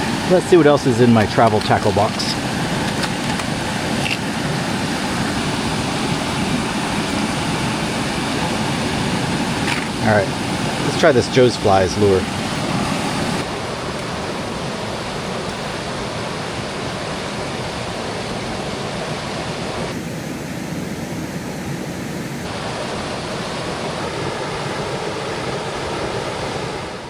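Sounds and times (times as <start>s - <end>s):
mountain creek rushing water: 0.0s - 27.0s.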